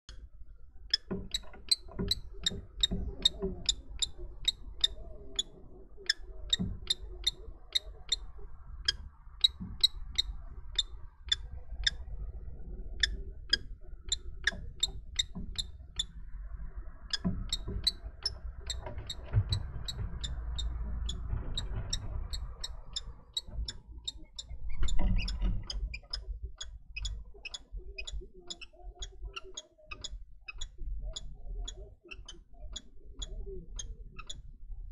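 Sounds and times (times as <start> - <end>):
kestrel ticking calls: 0.9 - 12.1, 13.0 - 16.3, 17.0 - 34.6.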